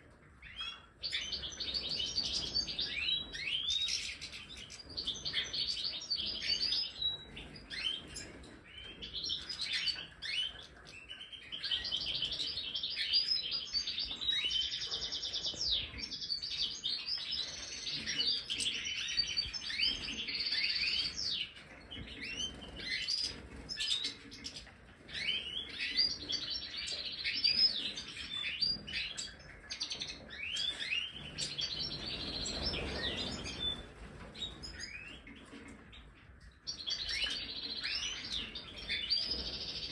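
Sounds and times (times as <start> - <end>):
goldfinches chirping and twittering: 0.4 - 35.7, 36.7 - 39.9.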